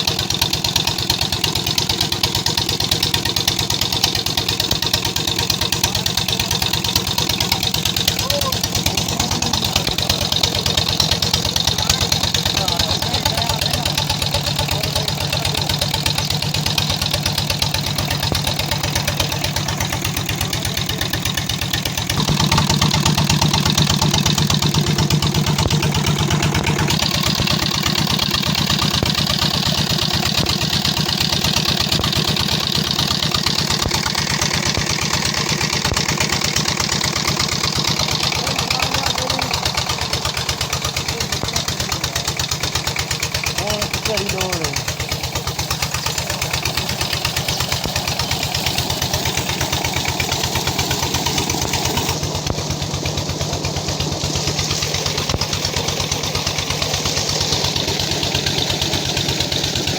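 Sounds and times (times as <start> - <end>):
diesel engine knocking: 0.0 - 59.9.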